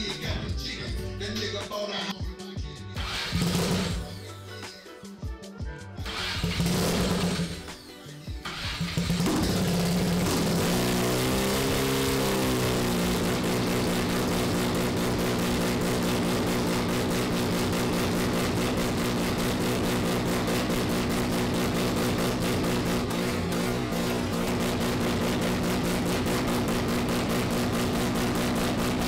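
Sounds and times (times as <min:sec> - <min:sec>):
rotary engine idling: 0:03.0 - 0:04.2, 0:06.1 - 0:07.7, 0:08.4 - 0:29.0.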